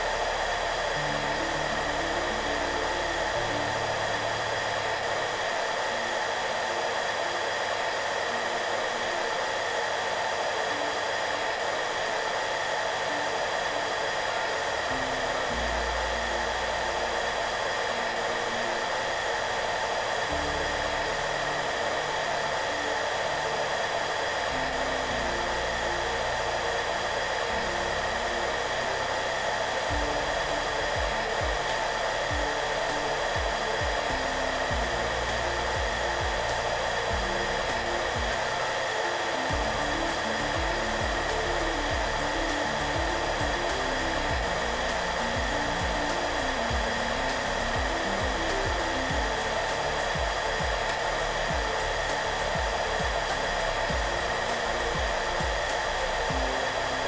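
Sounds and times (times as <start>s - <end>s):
hair dryer running: 0.0s - 57.0s
soft background music: 0.0s - 57.0s.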